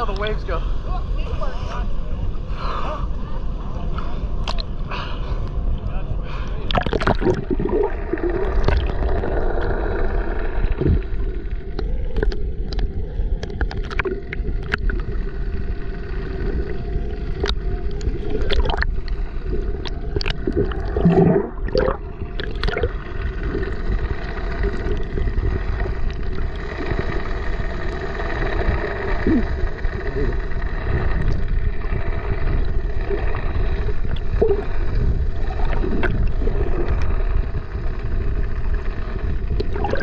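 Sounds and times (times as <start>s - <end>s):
small boat motor droning: 0.0s - 40.0s.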